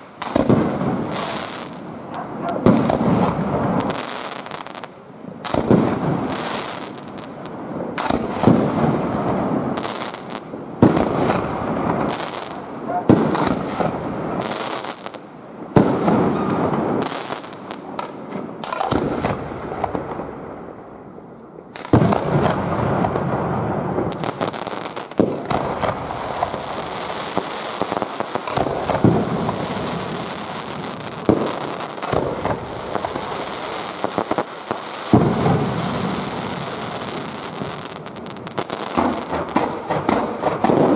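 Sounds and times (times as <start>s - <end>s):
firework shells bursting with bangs: 0.0s - 20.4s, 21.7s - 40.9s
firework crackling: 0.0s - 40.9s.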